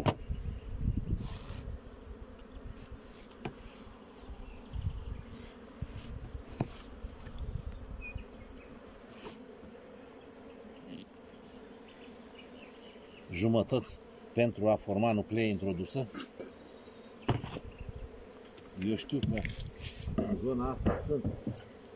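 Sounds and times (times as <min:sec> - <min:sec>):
bees buzzing: 0:00.0 - 0:21.9.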